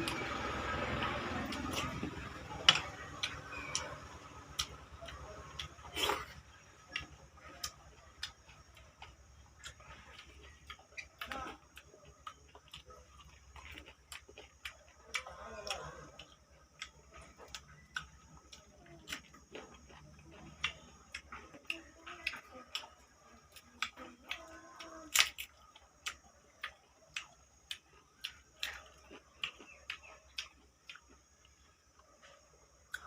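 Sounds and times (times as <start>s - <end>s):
wet chewing and mouth smacks: 1.5s - 32.1s.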